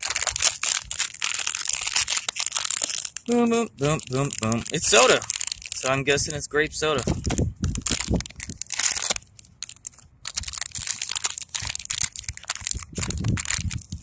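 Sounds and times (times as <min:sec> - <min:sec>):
foil wrapper crinkling: 0:00.0 - 0:14.0.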